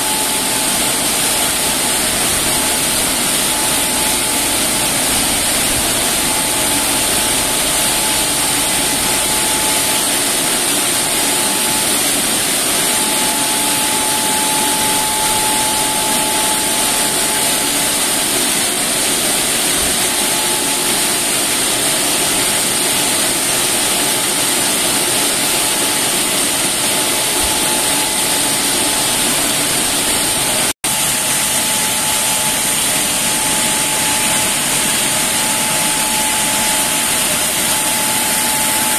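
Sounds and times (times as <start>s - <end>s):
car wash brushes and water spray: 0.0s - 38.9s
steady whine: 0.0s - 38.9s.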